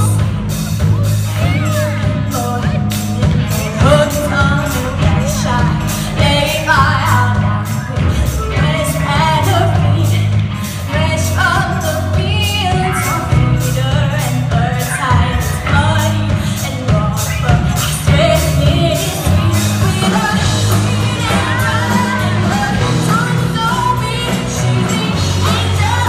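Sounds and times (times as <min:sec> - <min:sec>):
drum kit beat: 0:00.0 - 0:26.0
electric guitars: 0:00.0 - 0:26.0
woman singing: 0:00.0 - 0:26.0.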